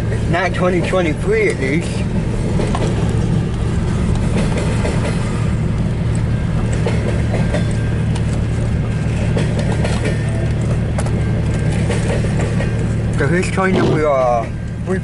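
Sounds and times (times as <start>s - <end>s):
freight train rumbling past: 0.0s - 15.0s
train wheel clicks: 0.8s - 13.4s.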